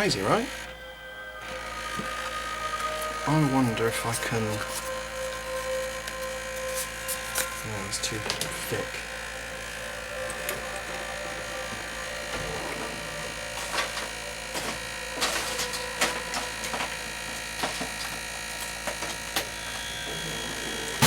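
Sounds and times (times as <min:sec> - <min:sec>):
disc player mechanical buzz: 0:00.0 - 0:21.0.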